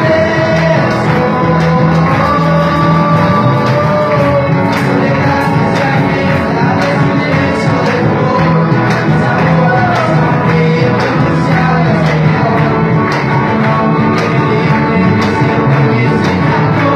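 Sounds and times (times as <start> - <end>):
person singing: 0.0 - 16.9
rock band playing: 0.0 - 16.9.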